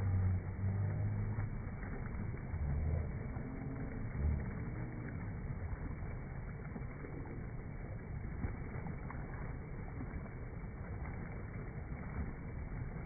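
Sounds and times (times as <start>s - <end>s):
low rumble on microphone: 0.0s - 13.0s.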